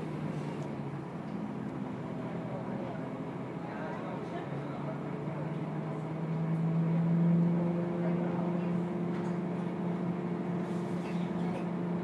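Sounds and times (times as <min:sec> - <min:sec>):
bus engine drone from inside: 0:00.0 - 0:12.0.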